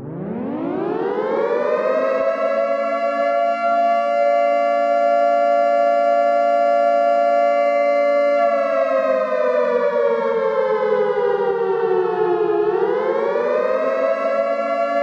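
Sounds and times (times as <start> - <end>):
siren falling and rising: 0.0 - 15.0.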